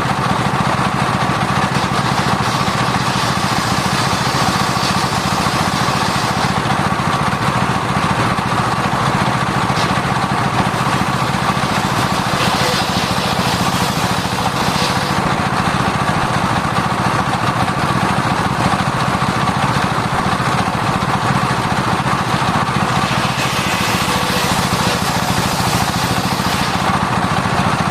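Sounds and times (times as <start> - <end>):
circular saw running: 0.0 - 27.9.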